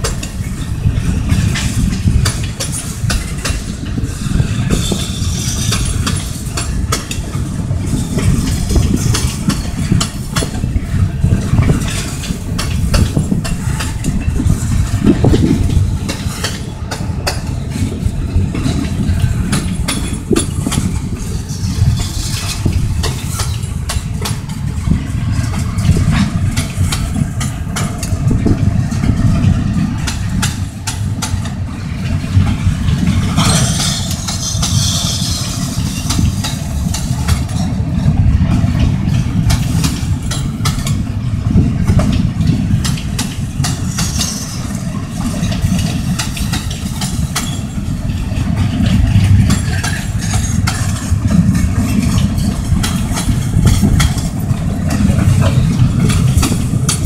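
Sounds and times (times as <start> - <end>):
clicks and clacks of wagons: 0.0 - 57.0
steel wheels rumbling on rails: 0.0 - 57.0.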